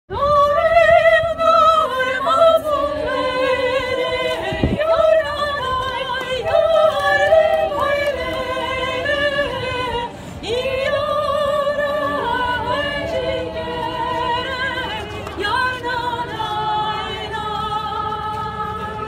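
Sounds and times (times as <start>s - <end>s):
girls' choir singing a cappella: 0.1s - 19.0s.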